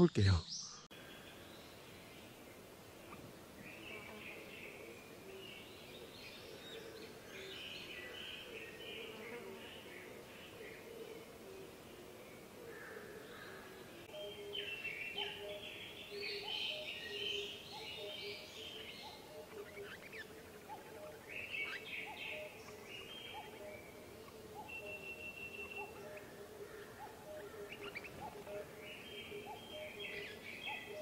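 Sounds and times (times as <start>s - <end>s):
birds chirping and trilling: 0.0s - 31.0s.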